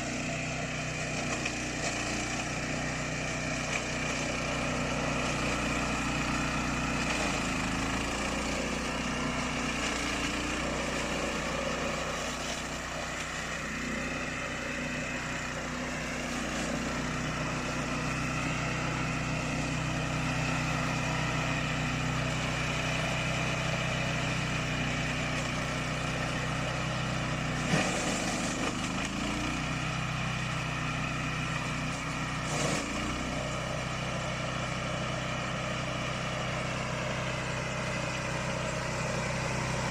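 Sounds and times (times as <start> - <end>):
mower engine running under load: 0.0 - 39.9.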